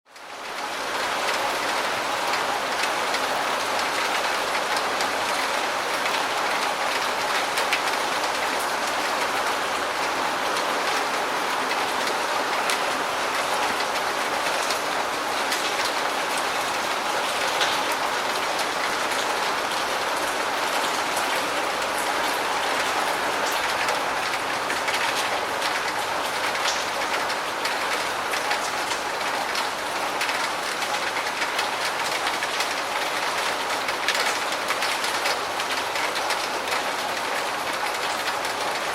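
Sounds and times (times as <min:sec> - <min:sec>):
medium rain falling: 0:00.1 - 0:38.9.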